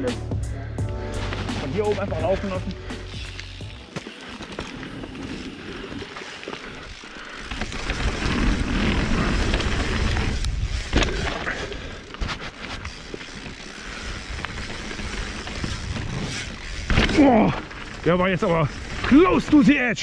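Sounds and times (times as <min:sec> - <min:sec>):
bike rattling over bumps: 0:01.1 - 0:20.0
tyres on loose dirt and stones: 0:01.1 - 0:20.0.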